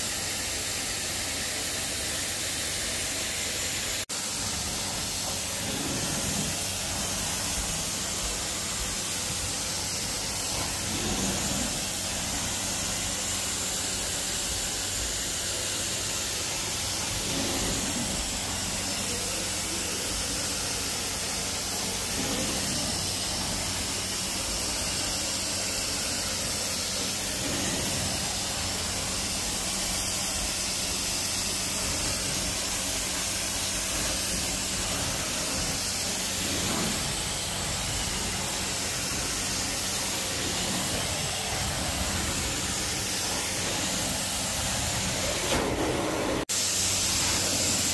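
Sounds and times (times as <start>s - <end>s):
carpet cleaning machine suction hiss: 0.0s - 47.9s.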